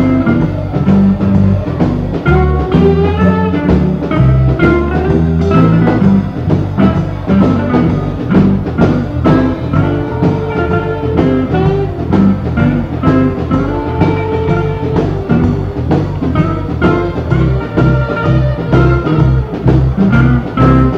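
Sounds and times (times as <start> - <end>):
drum kit steady beat: 0.0 - 20.9
guitar: 0.0 - 20.9.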